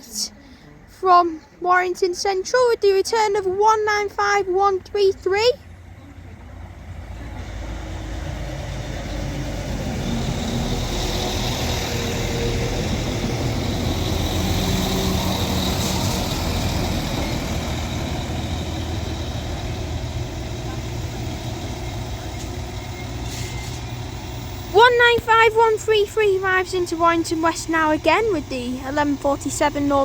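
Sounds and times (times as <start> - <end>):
train engine hum: 0.0 - 30.0
train wheel noise: 1.1 - 30.0.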